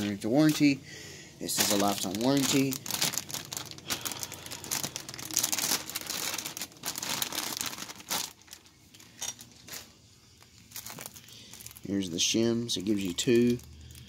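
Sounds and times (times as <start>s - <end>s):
plastic bag crinkling: 1.4s - 14.0s.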